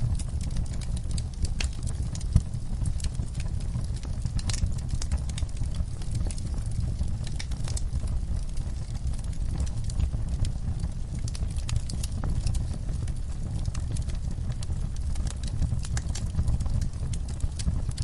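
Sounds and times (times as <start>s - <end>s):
low rumble of burning logs: 0.0s - 18.0s
wood fire crackling: 0.0s - 18.0s.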